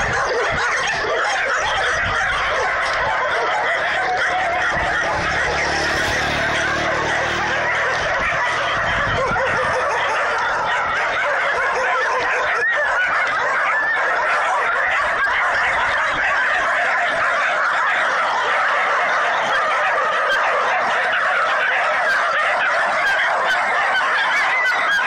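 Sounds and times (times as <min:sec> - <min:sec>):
many dogs barking and yelping: 0:00.0 - 0:25.0.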